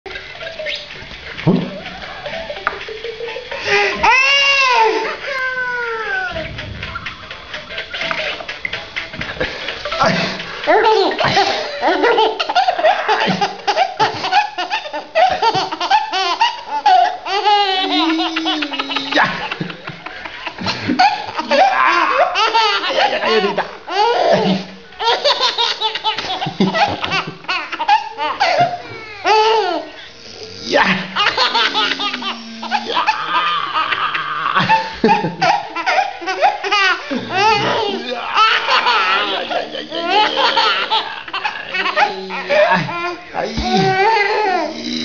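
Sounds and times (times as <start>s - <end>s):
baby laughing: 0.2s - 30.1s, 30.7s - 44.8s.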